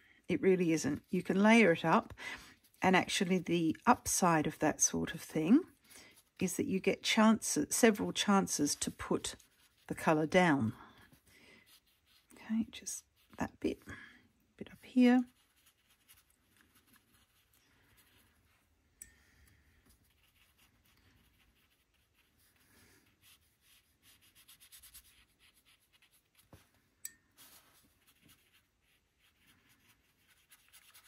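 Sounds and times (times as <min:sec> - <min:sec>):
paintbrush scratching on paper: 0:00.5 - 0:13.7, 0:14.7 - 0:18.7, 0:19.8 - 0:26.7, 0:27.3 - 0:31.0.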